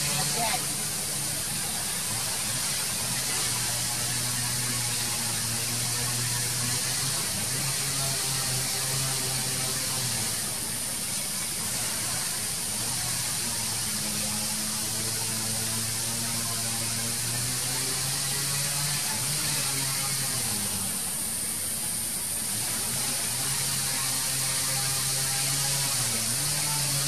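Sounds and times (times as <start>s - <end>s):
steady outdoor hiss: 0.0s - 27.0s.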